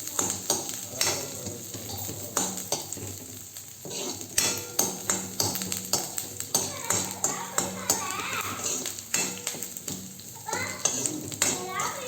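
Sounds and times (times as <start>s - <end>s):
food sizzling in hot oil: 0.0s - 12.0s
spoon scraping pan: 0.0s - 12.0s.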